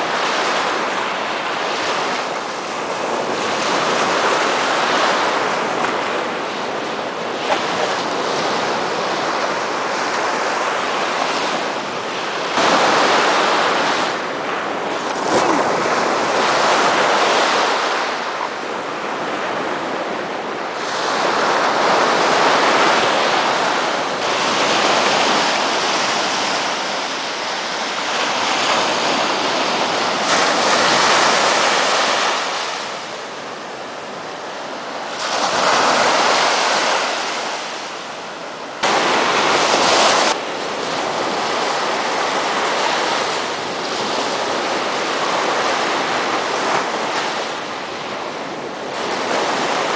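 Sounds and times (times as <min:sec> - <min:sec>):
surf breaking on beach: 0:00.0 - 0:49.9.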